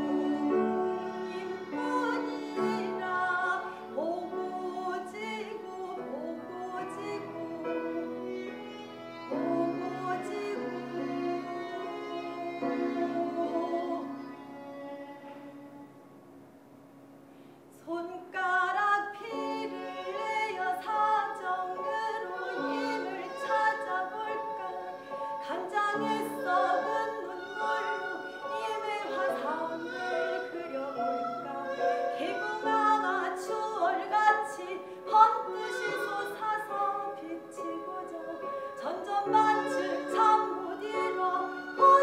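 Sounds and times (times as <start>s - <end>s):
woman singing long bending notes: 0.0s - 8.4s, 9.3s - 15.9s, 17.8s - 42.0s.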